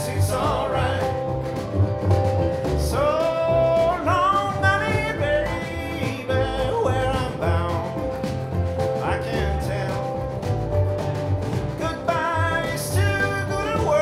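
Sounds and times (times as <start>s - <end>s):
acoustic guitar: 0.0s - 14.0s
mandolin: 0.0s - 14.0s
snare drum beat: 0.0s - 14.0s.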